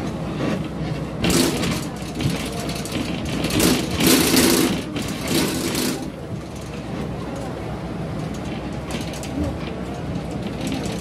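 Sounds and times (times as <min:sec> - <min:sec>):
heavy vehicle engine rumbling: 0:00.0 - 0:11.0.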